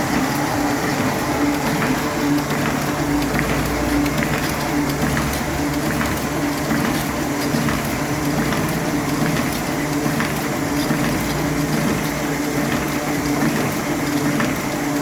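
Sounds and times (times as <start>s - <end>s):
printing press running: 0.0s - 15.0s.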